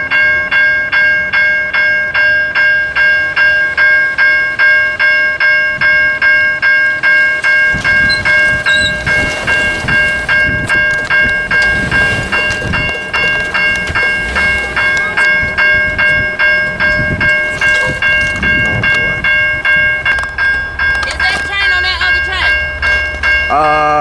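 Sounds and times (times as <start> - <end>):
railroad crossing bell ringing: 0.0 - 24.0.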